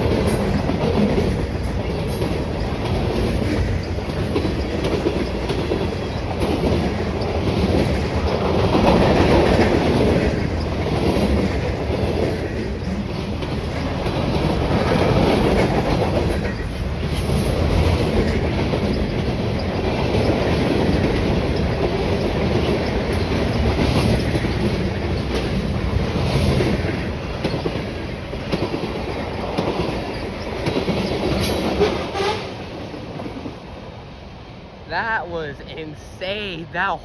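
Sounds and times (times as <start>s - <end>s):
wheels clicking over rail joints: 0.0s - 33.9s.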